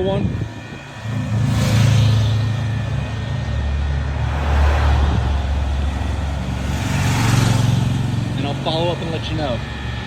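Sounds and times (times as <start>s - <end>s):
cooling fan drone: 0.0s - 10.0s.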